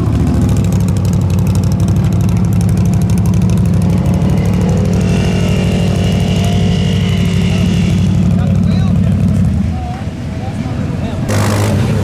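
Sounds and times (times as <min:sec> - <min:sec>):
higher engine note wavering: 0:00.0 - 0:10.0
vehicle engine running loudly: 0:00.0 - 0:12.0.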